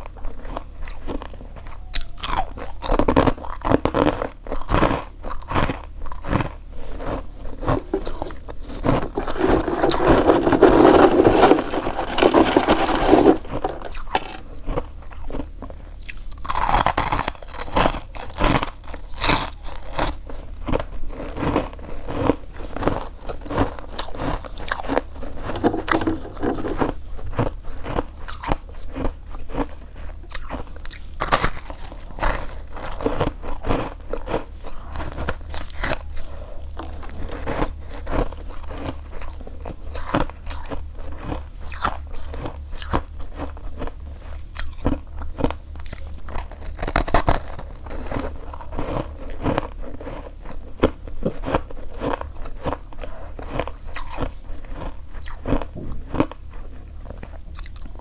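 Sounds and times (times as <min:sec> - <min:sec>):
crunchy chewing of frost: 0:00.0 - 0:58.0.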